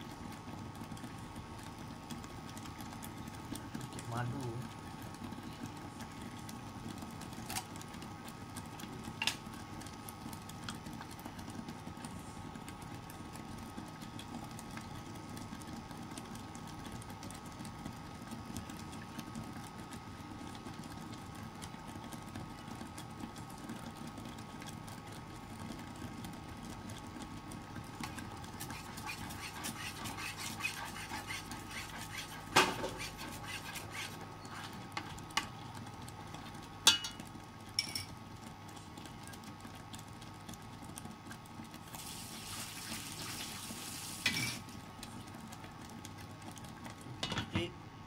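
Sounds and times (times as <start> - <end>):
induction cooker fan hum: 0.0 - 48.0.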